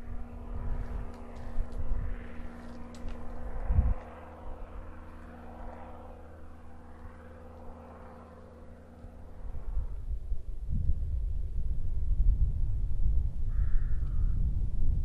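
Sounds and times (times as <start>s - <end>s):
engine hum: 0.0s - 15.0s
wind rumbling on microphone: 0.0s - 15.0s.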